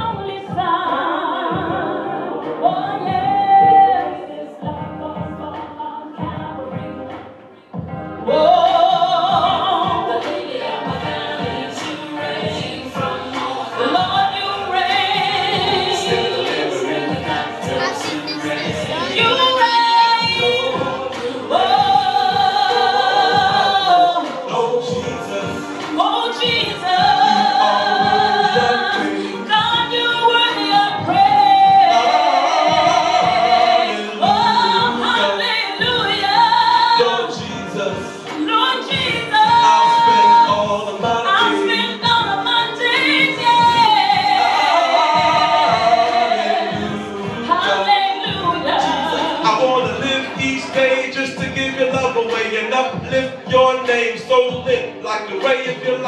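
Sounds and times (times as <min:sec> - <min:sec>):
gospel singing: 0:00.0 - 0:56.0
musical accompaniment: 0:00.0 - 0:56.0.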